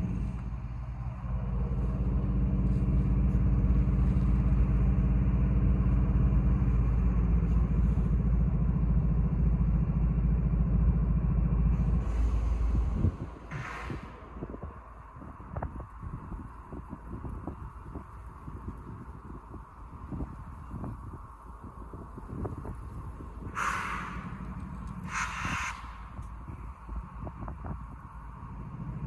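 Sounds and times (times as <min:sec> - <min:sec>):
large engine humming: 0:00.0 - 0:29.0.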